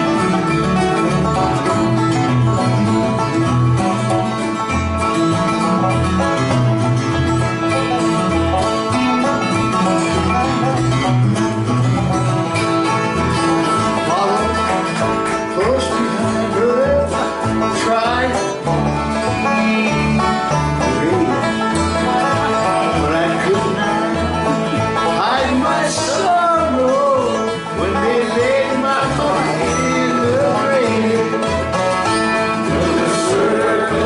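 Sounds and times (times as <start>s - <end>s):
banjo and guitar picking: 0.0s - 34.0s.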